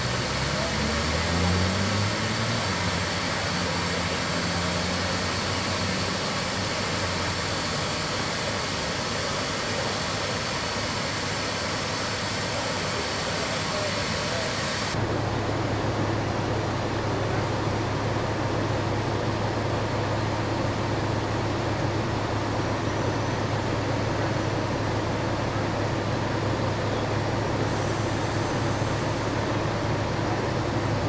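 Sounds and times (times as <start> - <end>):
steady mechanical rumble: 0.0 - 31.0.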